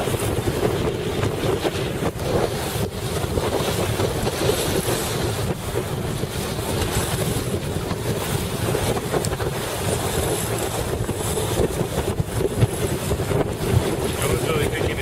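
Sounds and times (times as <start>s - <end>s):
water splashing along hull: 0.0s - 15.0s
wind buffeting microphone: 0.0s - 15.0s.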